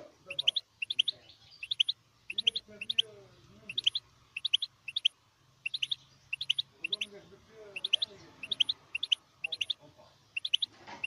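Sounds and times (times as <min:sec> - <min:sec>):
finch chirping: 0:00.2 - 0:11.0.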